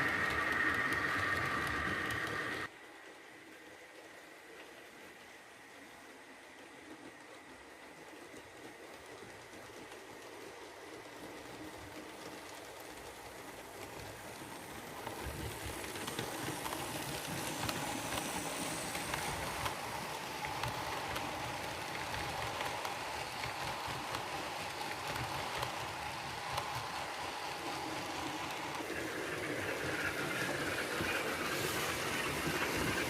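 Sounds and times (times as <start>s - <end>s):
model train steam sound: 0.0s - 7.3s, 9.0s - 33.0s
model train running on track: 0.0s - 33.0s.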